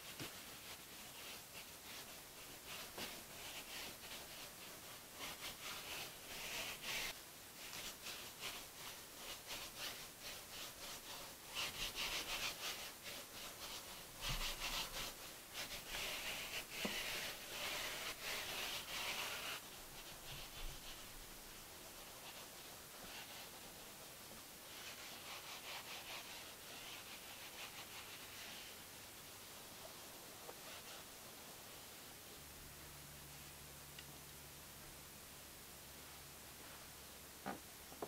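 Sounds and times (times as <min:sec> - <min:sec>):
brush sweeping across fabric: 0:00.0 - 0:33.7, 0:35.9 - 0:37.2.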